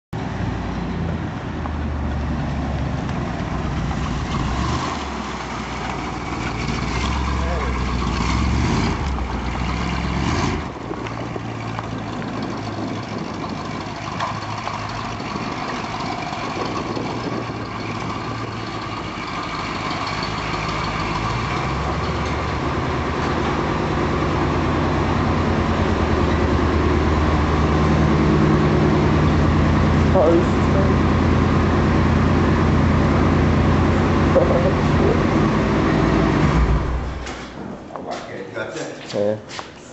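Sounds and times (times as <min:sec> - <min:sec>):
car engine running: 0:02.6 - 0:37.3.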